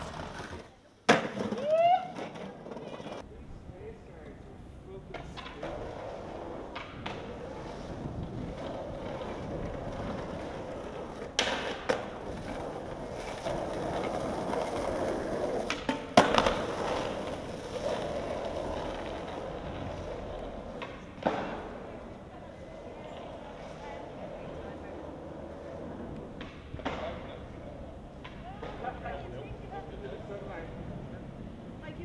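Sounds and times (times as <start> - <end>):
skateboard clacks: 0.0 - 3.3, 5.0 - 31.7
skateboard wheels rolling on asphalt: 0.0 - 32.0.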